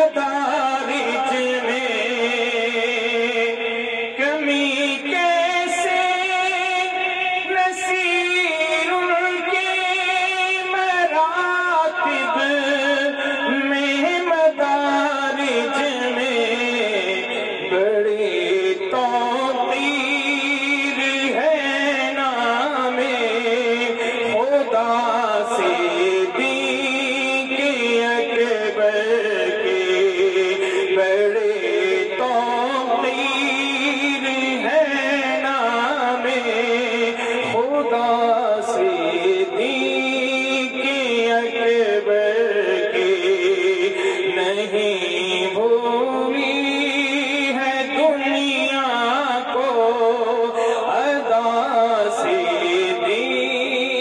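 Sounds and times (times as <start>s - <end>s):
man singing into a microphone: 0.0s - 54.0s.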